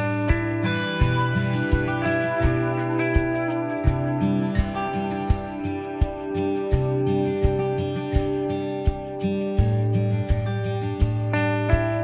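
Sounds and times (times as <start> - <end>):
acoustic guitar tune: 0.0 - 12.0
steady beat: 0.0 - 12.0.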